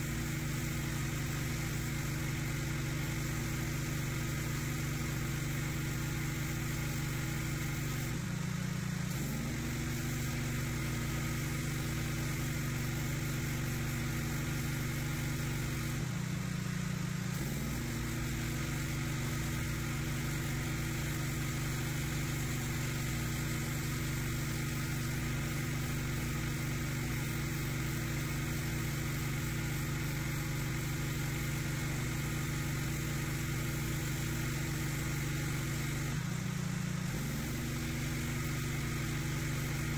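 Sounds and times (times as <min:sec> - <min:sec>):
pressure washer engine running: 0:00.0 - 0:39.9
spray hissing on concrete: 0:00.0 - 0:39.9.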